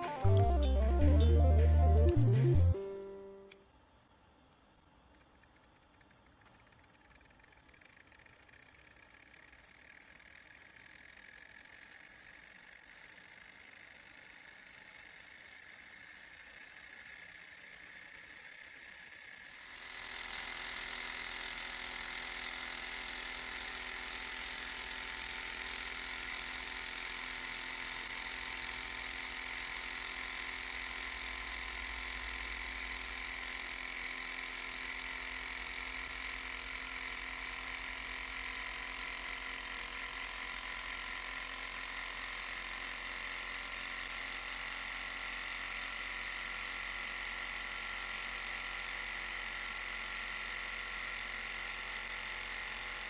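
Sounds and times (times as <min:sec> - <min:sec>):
stirling engine mechanical running: 0:04.8 - 0:53.0.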